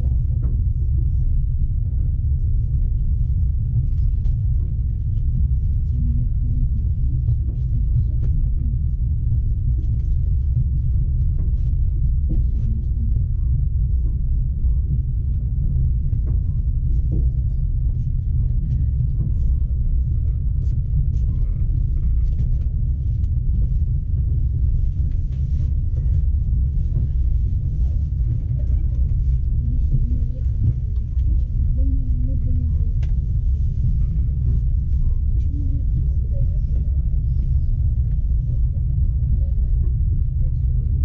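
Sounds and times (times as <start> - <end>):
faint clicks and rattles: 0.0 - 41.0
train running rumble: 0.0 - 41.0.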